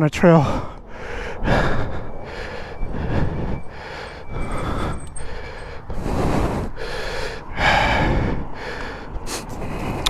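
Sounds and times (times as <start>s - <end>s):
wind and road rumble: 0.0s - 10.0s
person breathing hard: 0.4s - 10.0s.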